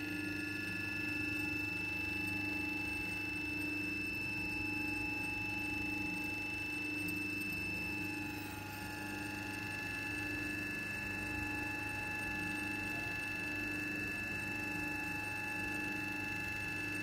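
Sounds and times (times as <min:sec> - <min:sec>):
electric motor hum with whine: 0:00.0 - 0:17.0.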